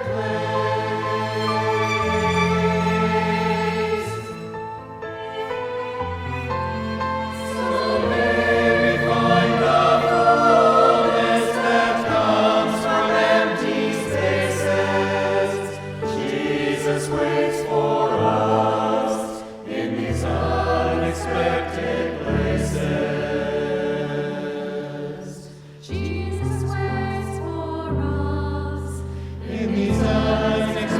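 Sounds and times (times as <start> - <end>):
choir singing: 0.0 - 30.9.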